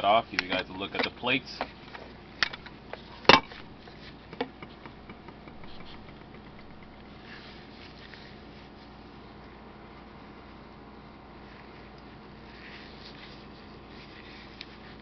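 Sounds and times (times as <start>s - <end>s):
soft ticks and rustles: 0.0s - 9.6s, 11.4s - 15.0s
steady low hiss: 0.0s - 15.0s.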